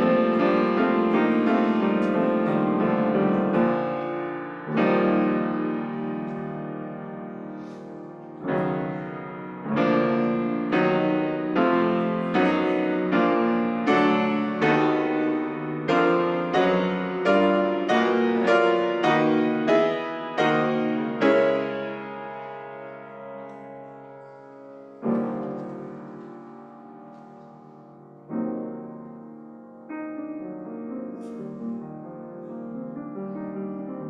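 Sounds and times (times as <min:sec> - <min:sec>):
piano playing slow chords: 0:00.0 - 0:34.0.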